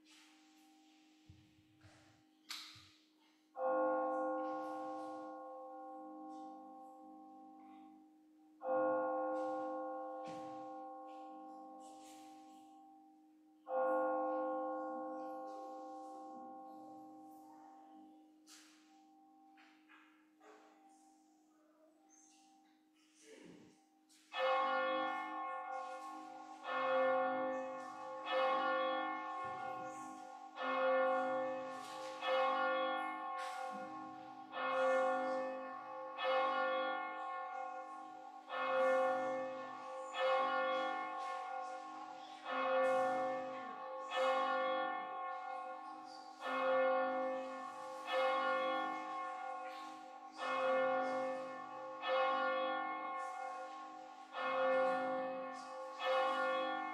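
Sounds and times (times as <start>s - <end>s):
church bell tolling: 3.6s - 22.9s, 23.8s - 56.9s.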